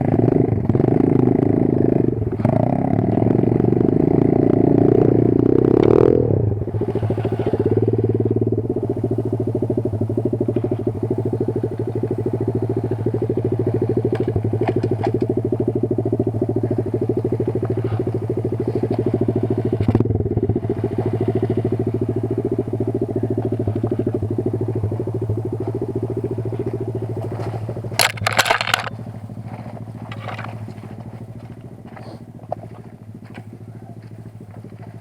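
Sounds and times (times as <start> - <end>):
motorbike engine at low revs: 0.0 - 35.0.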